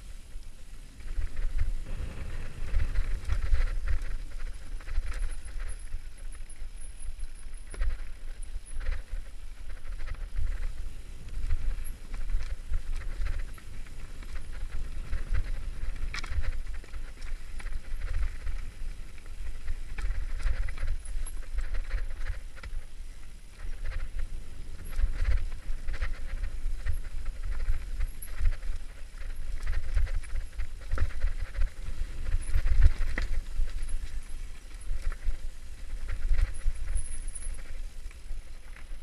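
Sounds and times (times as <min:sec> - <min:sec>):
bike and stones rattling: 0:00.0 - 0:39.0
wind and vibration rumble: 0:00.0 - 0:39.0.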